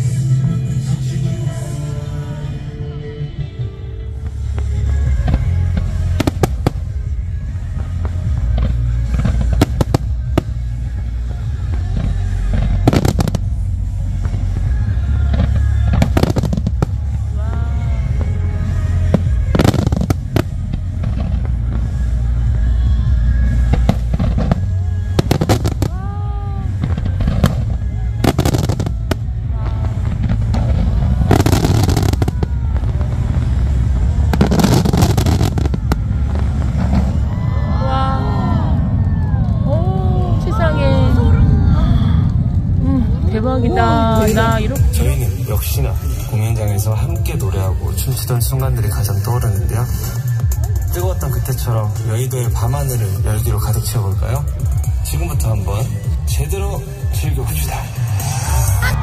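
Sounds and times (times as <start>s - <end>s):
continuous low rumble: 0.0s - 59.0s
music playing: 0.0s - 59.0s
low fireworks boom: 3.3s - 59.0s
fireworks cracking: 4.2s - 22.6s, 23.3s - 41.6s, 42.2s - 59.0s.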